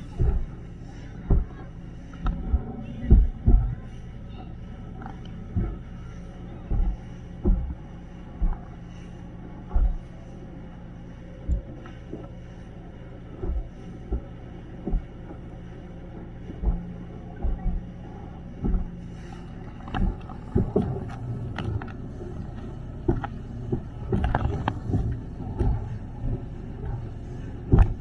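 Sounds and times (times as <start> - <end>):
boat engine hum: 0.0 - 28.0.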